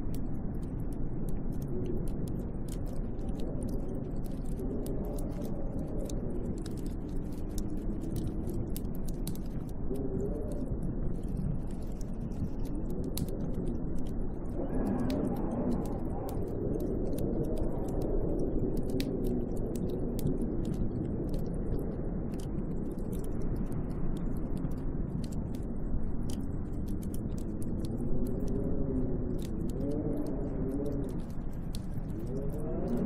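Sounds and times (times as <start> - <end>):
faint ticks: 0.0 - 33.0
howling snowstorm wind: 0.0 - 33.0.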